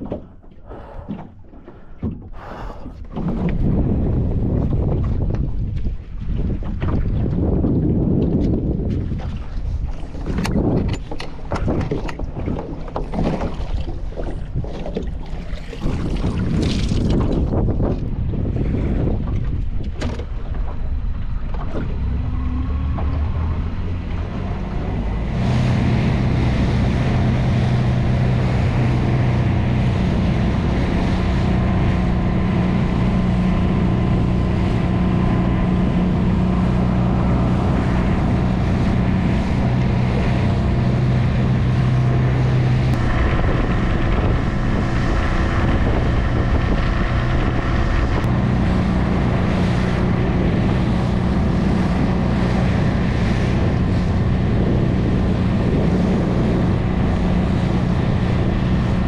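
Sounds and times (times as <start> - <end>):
outboard motor running: 0.0 - 59.0
water noise: 0.0 - 59.0
wind buffeting microphone: 0.0 - 59.0.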